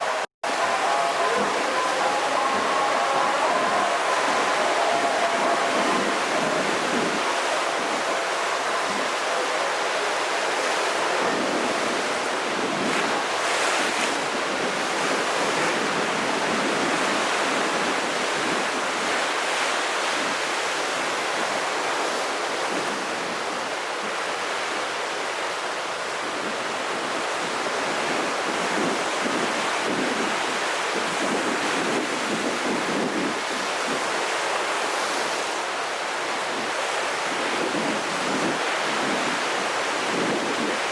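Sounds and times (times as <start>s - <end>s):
sea surf breaking: 0.0s - 40.9s
wind: 0.0s - 40.9s.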